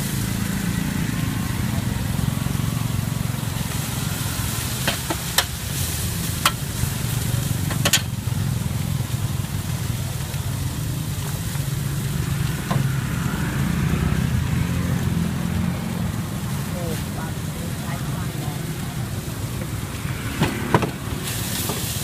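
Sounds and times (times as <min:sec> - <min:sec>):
noodles sizzling in oil: 0:00.0 - 0:20.3, 0:21.0 - 0:22.0
street traffic hum: 0:00.0 - 0:22.0.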